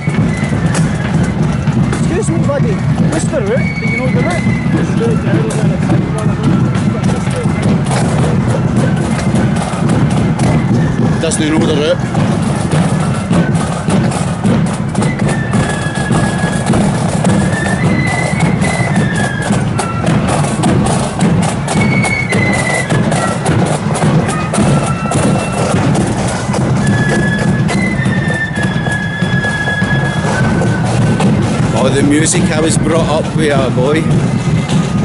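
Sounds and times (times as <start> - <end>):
bass drum: 0.0 - 35.0
high melody line: 0.0 - 35.0
snare drumming: 0.0 - 35.0.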